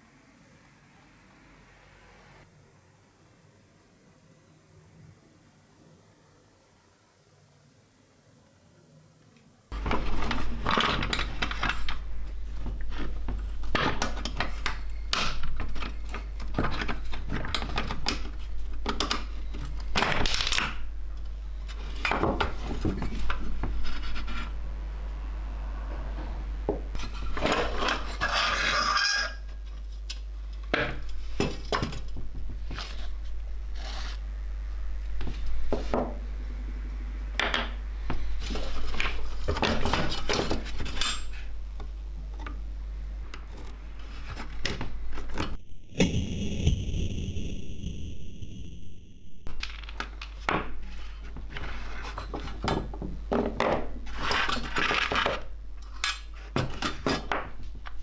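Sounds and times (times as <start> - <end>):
steady low hum: 9.7 - 56.3.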